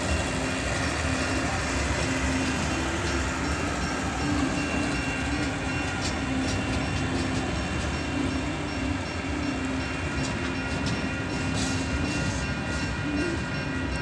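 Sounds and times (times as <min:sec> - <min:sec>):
level crossing bell ringing: 0:00.0 - 0:14.0
train wheels clacking on rails: 0:00.0 - 0:14.0.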